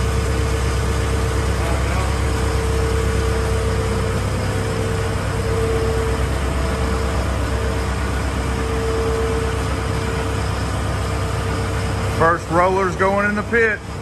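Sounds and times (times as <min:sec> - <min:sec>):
forklift engine running at low revs: 0:00.0 - 0:14.0
steady whine: 0:00.0 - 0:14.0.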